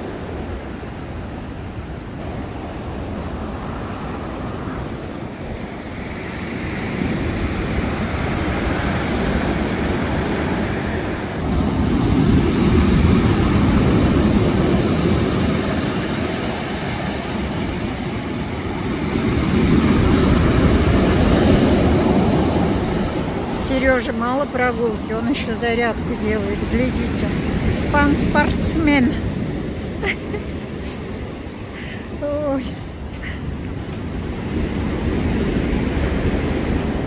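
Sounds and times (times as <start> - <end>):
waves breaking on pebble beach: 0.0 - 37.0.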